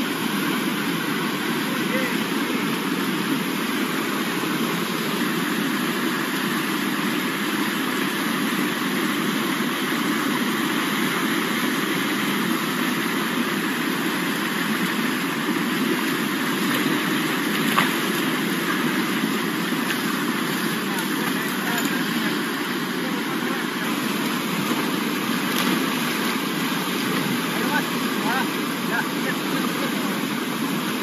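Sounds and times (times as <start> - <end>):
river rushing over rapids: 0.0 - 31.0.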